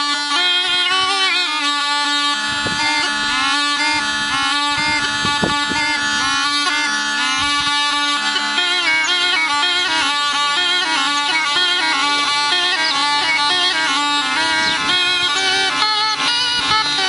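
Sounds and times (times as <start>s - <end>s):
held drone: 0.0s - 17.0s
melody with sliding notes: 0.1s - 17.0s.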